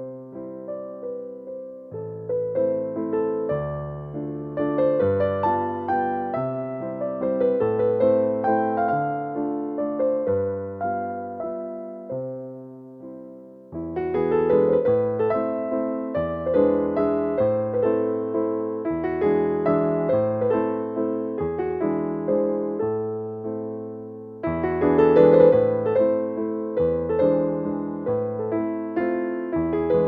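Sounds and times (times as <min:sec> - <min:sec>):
gentle piano tune: 0:00.0 - 0:30.0.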